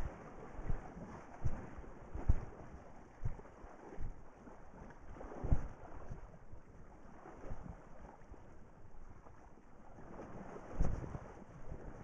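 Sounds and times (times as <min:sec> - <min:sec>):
river water splashing: 0:00.0 - 0:12.0
wind on microphone: 0:00.0 - 0:12.0.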